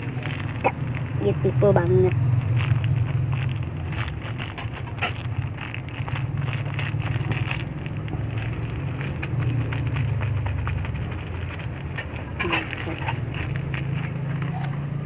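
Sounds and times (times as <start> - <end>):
crackling handling noise: 0.0 - 15.0
steady low rumble: 0.0 - 15.0.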